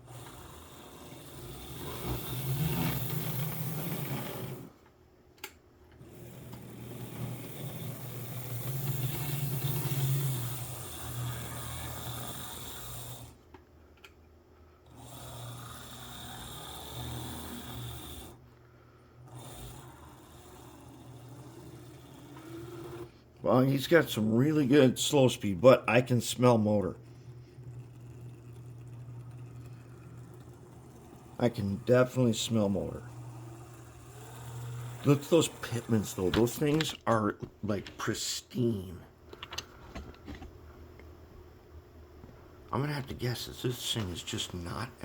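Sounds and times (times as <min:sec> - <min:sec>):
model locomotive motor whirring: 0:00.0 - 0:04.8, 0:06.0 - 0:13.4, 0:14.8 - 0:18.4, 0:19.2 - 0:37.2, 0:42.8 - 0:45.0.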